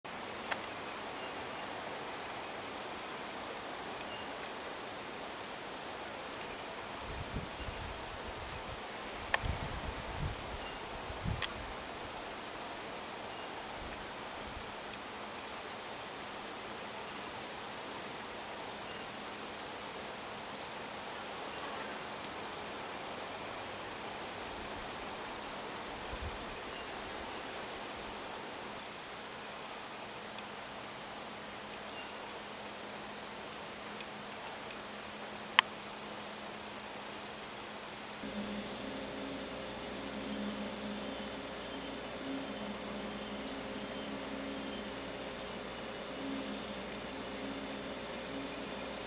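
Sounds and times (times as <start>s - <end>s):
cicadas buzzing: 0.1s - 49.0s.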